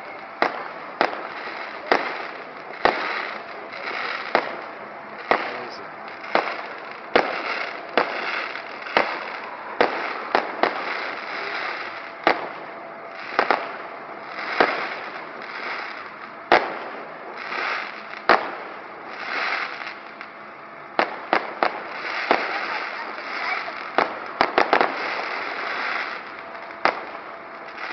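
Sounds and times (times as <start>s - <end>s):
firework crackling: 0.0s - 27.9s.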